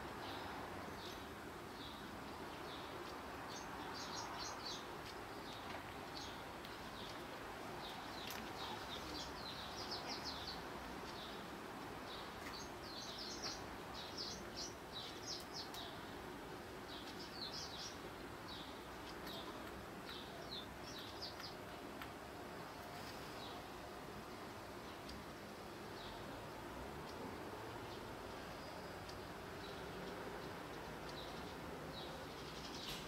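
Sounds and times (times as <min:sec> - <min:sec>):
steady background hiss: 0:00.0 - 0:33.0
sparrows chirping: 0:00.1 - 0:23.8, 0:24.6 - 0:33.0.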